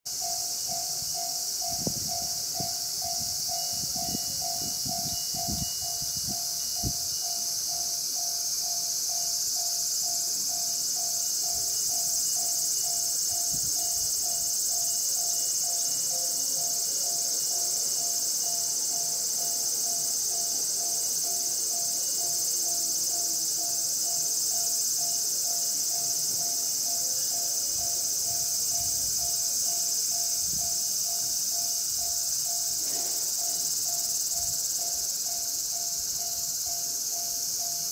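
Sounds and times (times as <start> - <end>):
level crossing alarm ringing: 0.1 - 37.9
insects shrilling: 0.2 - 37.9.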